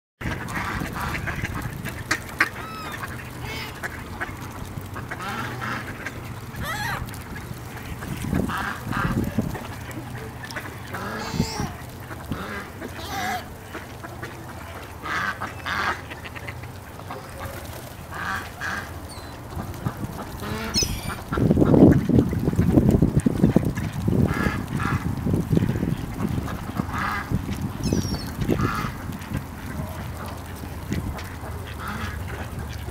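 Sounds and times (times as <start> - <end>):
ducks quacking: 0.2 - 32.9.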